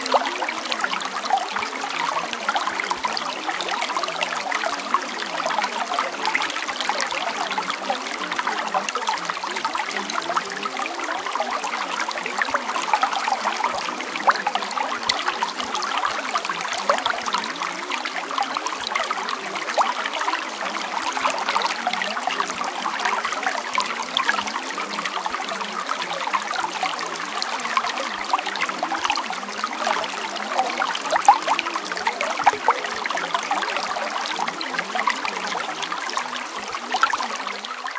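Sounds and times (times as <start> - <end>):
water trickling and babbling: 0.0 - 37.9.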